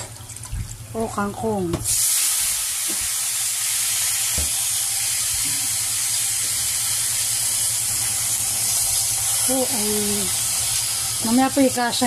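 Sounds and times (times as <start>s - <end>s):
greens sizzling in hot oil: 1.8s - 12.0s.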